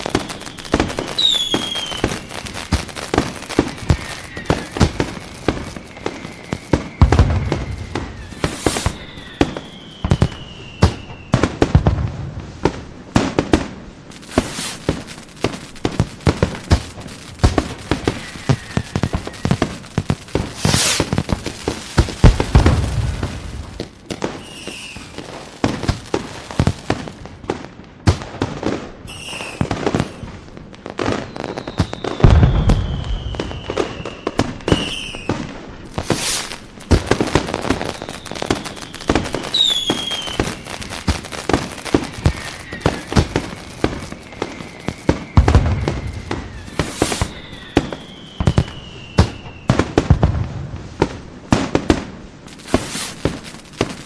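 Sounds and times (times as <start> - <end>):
deep firework booms: 0.0 - 54.0
falling firework whistles: 0.0 - 54.0
fireworks bangs and crackling: 0.0 - 54.0.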